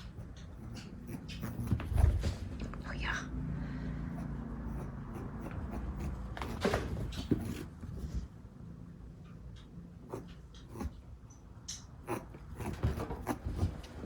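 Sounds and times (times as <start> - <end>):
rabbit scratching and rubbing: 0.0 - 3.0, 4.1 - 8.4, 9.2 - 14.0.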